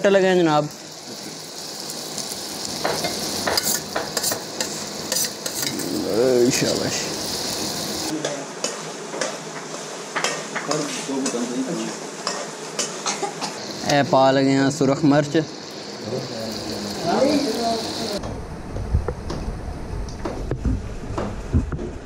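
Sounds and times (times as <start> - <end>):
vegetables sizzling in oil: 0.0 - 18.2.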